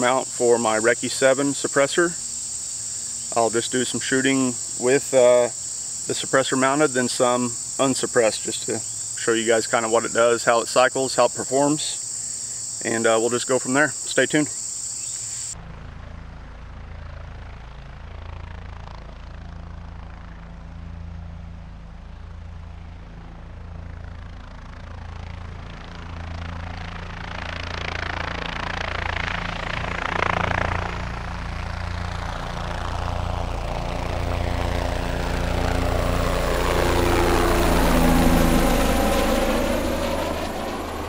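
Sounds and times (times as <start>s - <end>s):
drone propellers humming: 0.0s - 41.0s.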